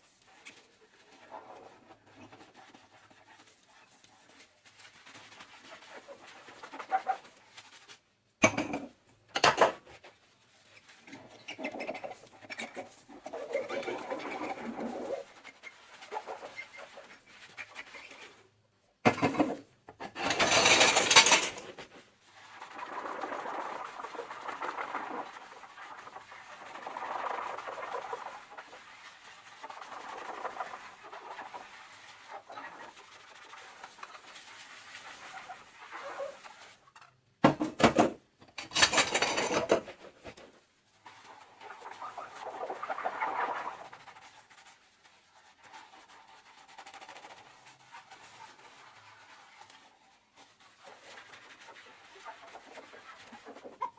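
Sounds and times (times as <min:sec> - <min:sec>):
sponge squishing and scrubbing: 0:00.0 - 0:09.2, 0:09.8 - 0:20.2, 0:21.7 - 0:37.4, 0:39.8 - 0:53.9.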